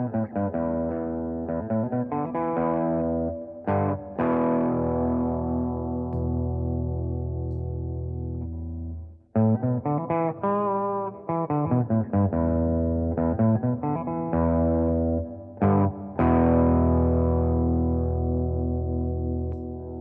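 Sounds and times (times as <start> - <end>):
overdriven electric guitar: 0.0 - 20.0.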